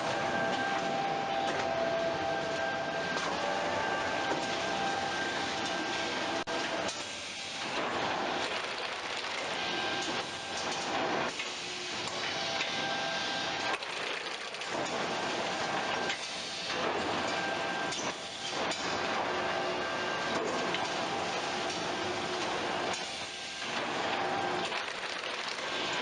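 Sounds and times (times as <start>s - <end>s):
machinery rattling and hissing: 3.1s - 26.0s.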